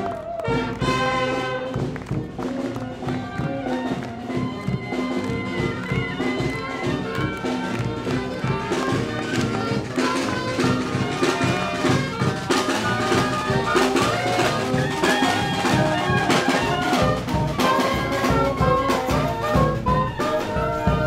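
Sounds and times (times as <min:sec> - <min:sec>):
brass band horns: 0:00.0 - 0:21.0
drum beat: 0:00.8 - 0:21.0.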